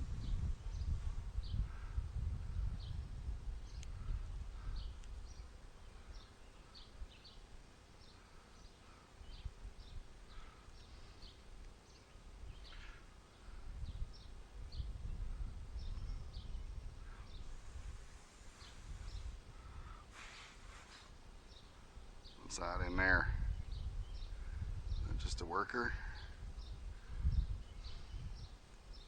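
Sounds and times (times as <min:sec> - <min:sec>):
wind buffeting microphone: 0:00.0 - 0:07.5, 0:09.2 - 0:29.0
small birds chirping: 0:00.0 - 0:29.0.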